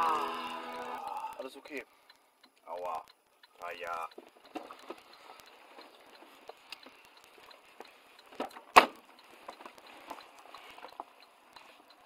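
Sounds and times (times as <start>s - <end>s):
faint clicks and knocks: 1.7s - 12.0s.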